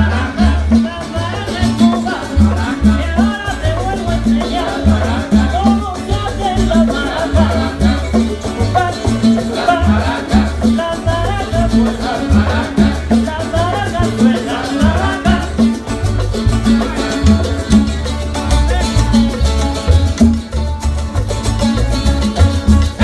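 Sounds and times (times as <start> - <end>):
salsa music: 0.0 - 23.0
syncopated bass line: 0.0 - 23.0.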